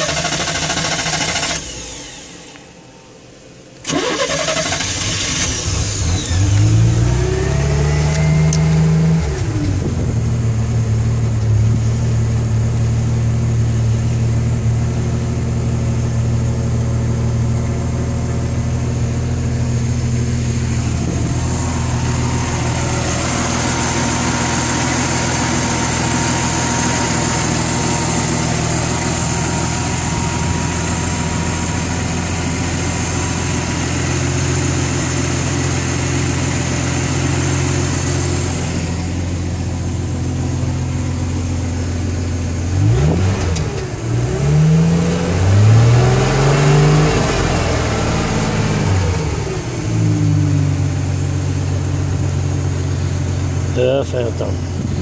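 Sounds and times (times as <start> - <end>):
boat engine idling and revving: 5.0 - 55.0.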